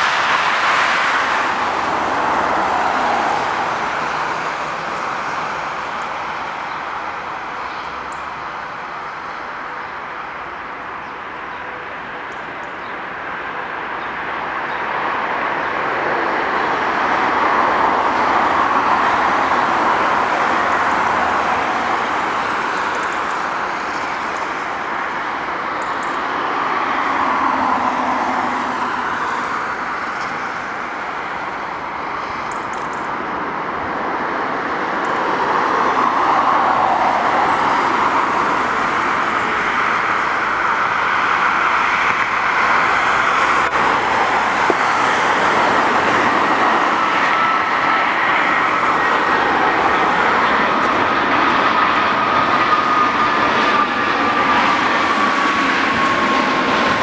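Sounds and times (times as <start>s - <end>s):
jet engines passing overhead: 0.0s - 57.0s.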